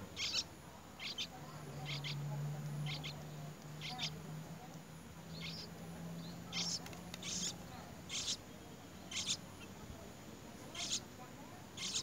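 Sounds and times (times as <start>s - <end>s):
nestlings chirping: 0.0s - 12.0s.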